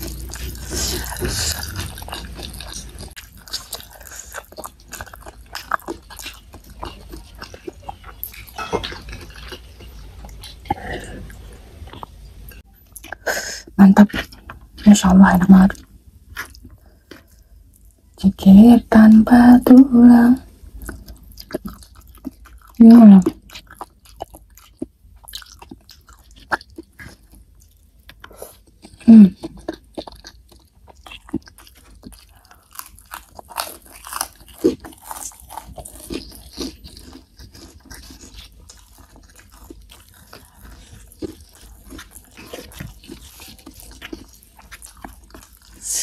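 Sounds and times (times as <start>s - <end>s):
person chewing wetly: 0.0s - 13.2s, 14.0s - 18.1s, 20.7s - 46.0s.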